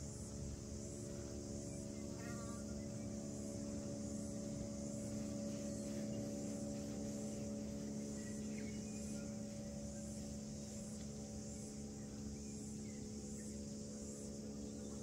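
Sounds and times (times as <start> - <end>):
cicadas pulsing: 0.0 - 15.0
steady low hum: 0.0 - 15.0.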